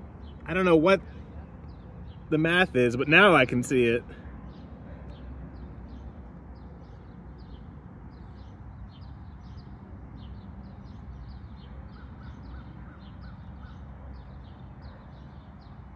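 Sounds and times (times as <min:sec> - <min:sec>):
birds chirping: 0:00.0 - 0:15.9
lower evenly spaced bird calls: 0:00.0 - 0:15.9.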